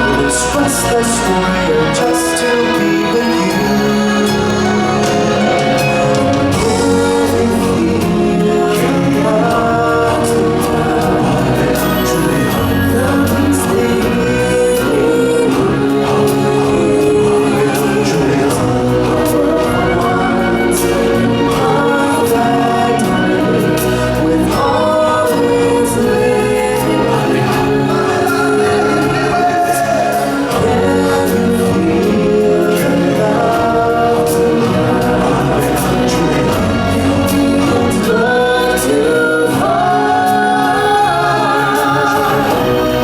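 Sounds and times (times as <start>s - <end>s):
choir singing: 0.0s - 43.0s
loud steady music: 0.0s - 43.0s.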